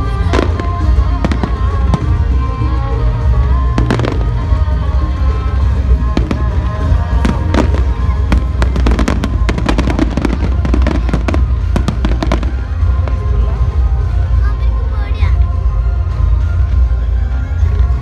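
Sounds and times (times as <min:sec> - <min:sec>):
fireworks bangs and crackles: 0:00.0 - 0:14.6
music playing: 0:00.0 - 0:18.0.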